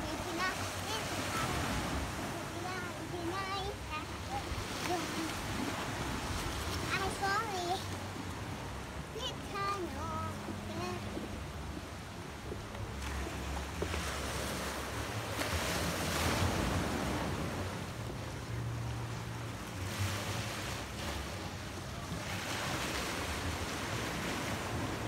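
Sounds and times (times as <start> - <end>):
waves washing over boulders: 0.0 - 25.0.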